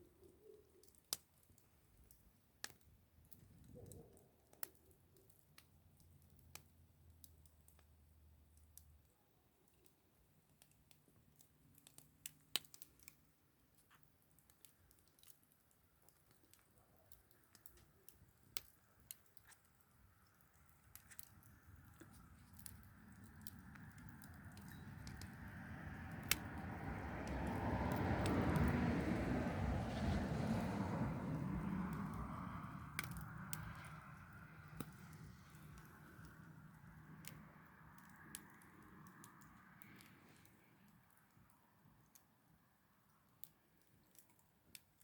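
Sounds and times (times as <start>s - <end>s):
campfire crackling and popping: 0.1s - 45.0s.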